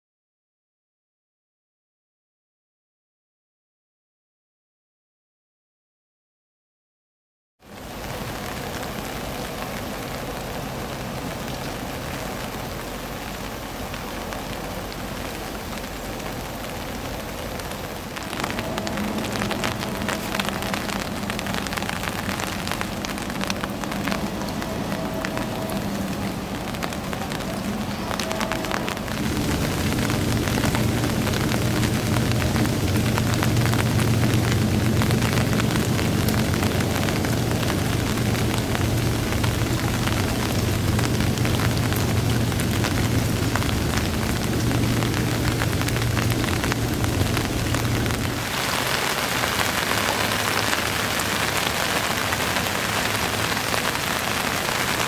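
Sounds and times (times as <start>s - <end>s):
rain falling on river: 7.6s - 55.0s
low hum: 9.2s - 54.0s.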